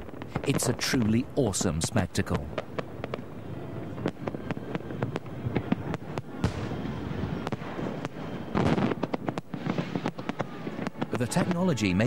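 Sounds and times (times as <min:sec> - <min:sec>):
fireworks bangs and pops: 0:00.0 - 0:12.0
fireworks crackling: 0:00.0 - 0:12.0.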